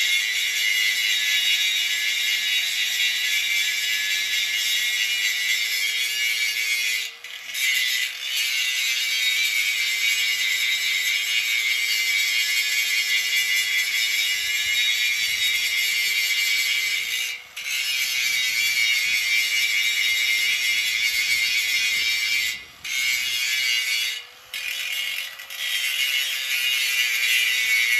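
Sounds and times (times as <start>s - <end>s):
angle grinder grinding steel: 0.0s - 27.9s.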